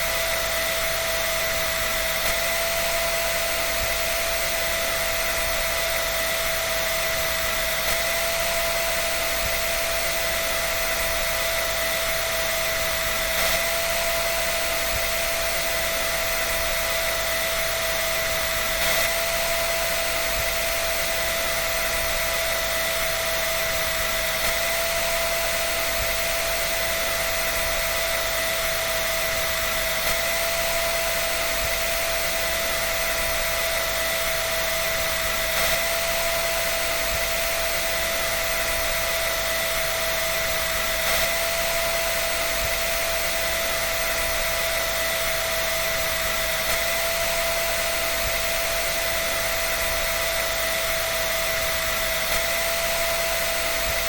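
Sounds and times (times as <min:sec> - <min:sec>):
electric dryer running: 0:00.0 - 0:54.0.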